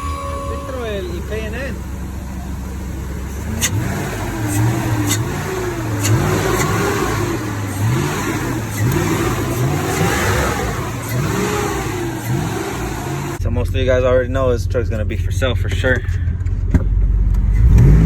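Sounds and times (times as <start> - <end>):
pickup engine revving: 0.0 - 14.0, 14.6 - 18.0.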